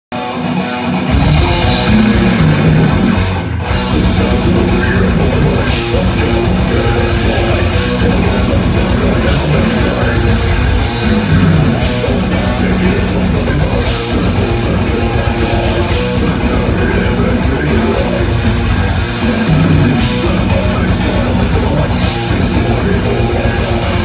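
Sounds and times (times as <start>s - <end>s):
heavy metal band playing: 0.1s - 24.0s.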